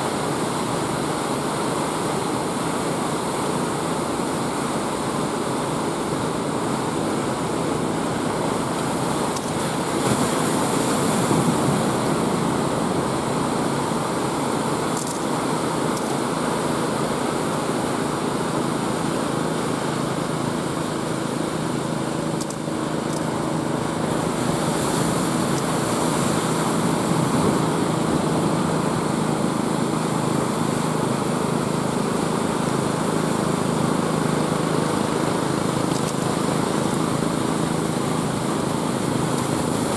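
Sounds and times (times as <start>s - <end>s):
sea surf washing in: 0.0s - 39.9s.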